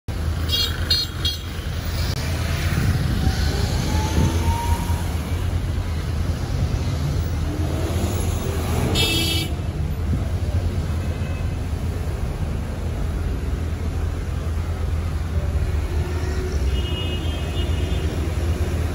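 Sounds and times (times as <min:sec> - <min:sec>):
vehicle engines rumbling: 0:00.1 - 0:18.9.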